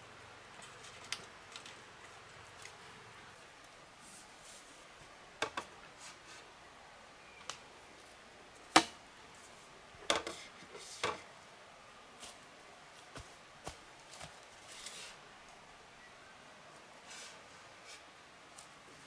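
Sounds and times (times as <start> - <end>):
faint steady background: 0.0 - 19.0.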